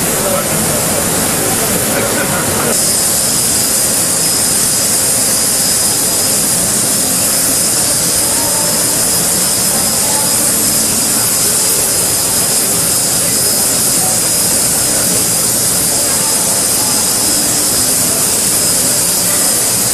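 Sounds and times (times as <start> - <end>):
high machine whine: 0.0 - 19.9
water flushing hiss: 0.0 - 19.9.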